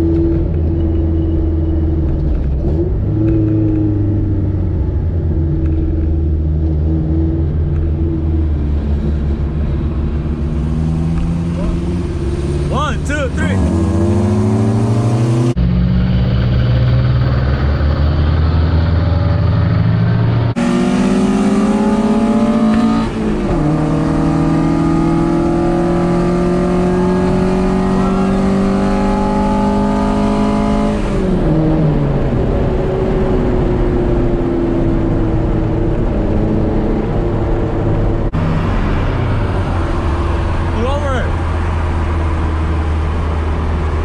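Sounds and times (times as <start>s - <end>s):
car engine accelerating through gears: 0.0s - 12.8s, 13.4s - 44.0s.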